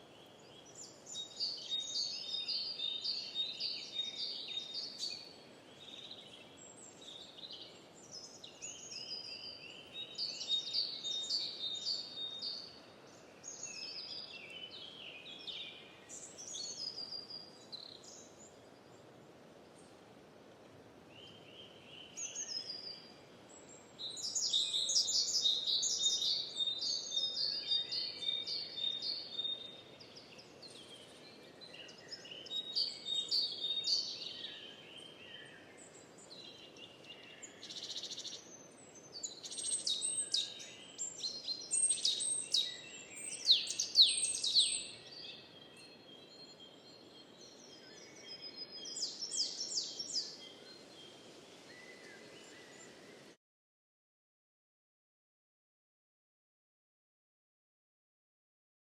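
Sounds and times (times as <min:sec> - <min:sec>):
songbirds singing: 0:00.0 - 0:20.0, 0:21.0 - 0:53.4
faint background hiss: 0:00.0 - 0:53.4.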